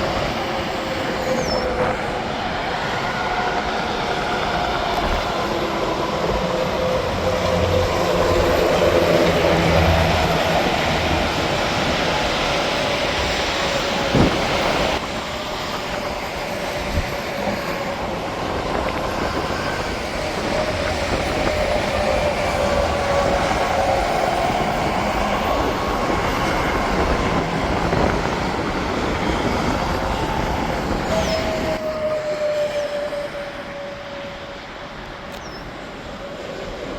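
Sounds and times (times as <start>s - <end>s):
highway traffic roar: 0.0s - 36.9s.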